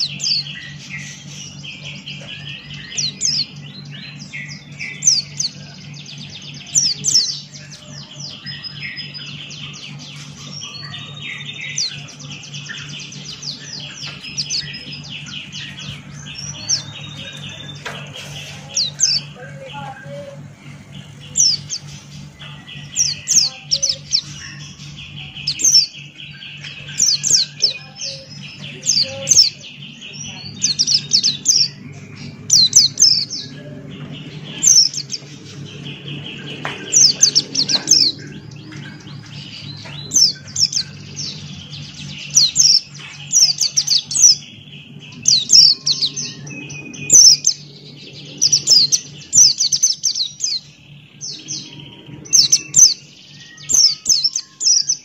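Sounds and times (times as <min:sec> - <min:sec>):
continuous high buzzing: 0:00.0 - 0:55.0
steady low hum: 0:00.0 - 0:55.0.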